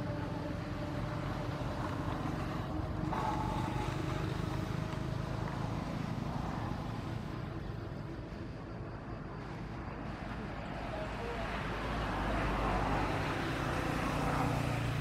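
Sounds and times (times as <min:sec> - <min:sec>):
distant traffic rumble: 0:00.0 - 0:15.0
faint engine hum: 0:00.0 - 0:15.0.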